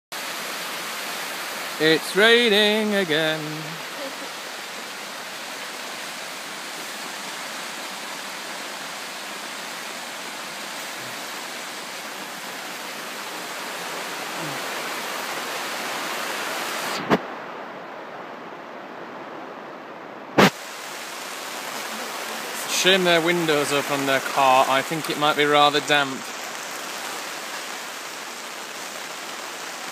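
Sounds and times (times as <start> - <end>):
heavy rain hiss: 0.1 - 19.4, 20.4 - 29.9.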